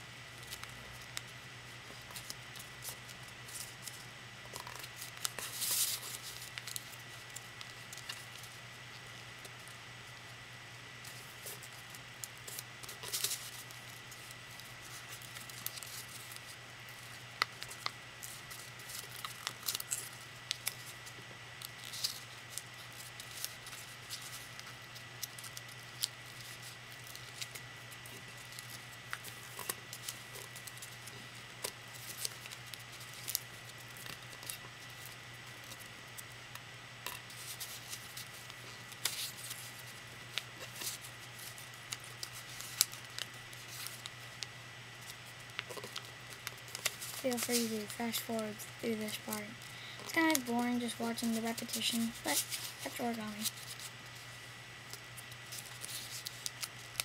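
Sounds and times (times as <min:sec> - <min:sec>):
paper crinkling and rustling: 0:00.4 - 0:09.8, 0:11.0 - 0:36.3, 0:37.1 - 0:57.0.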